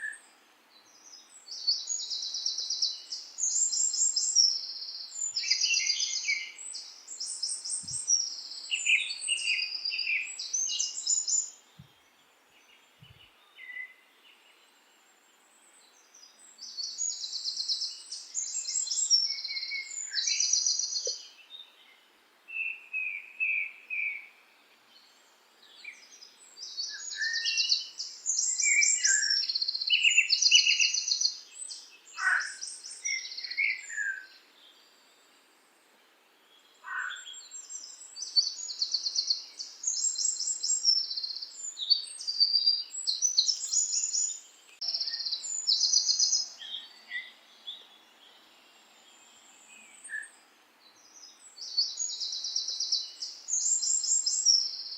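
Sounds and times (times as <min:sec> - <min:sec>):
songbirds trilling and chirping: 0:00.0 - 0:54.9.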